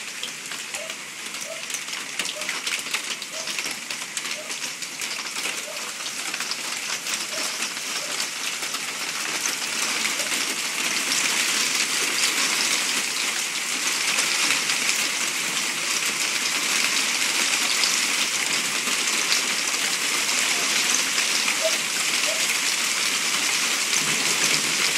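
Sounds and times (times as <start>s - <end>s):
hail and heavy rain pelting: 0.0s - 24.9s.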